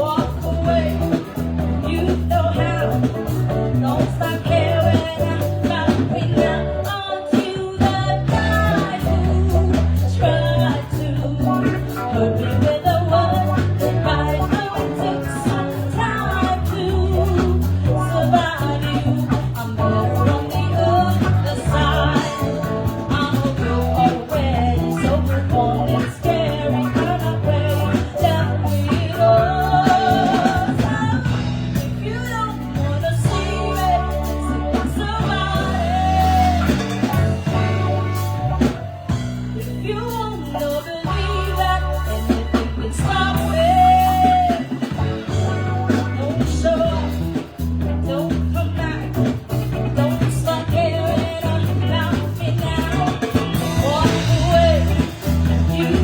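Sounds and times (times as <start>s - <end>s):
live band playing: 0.0s - 56.0s
person singing with vibrato: 0.0s - 56.0s.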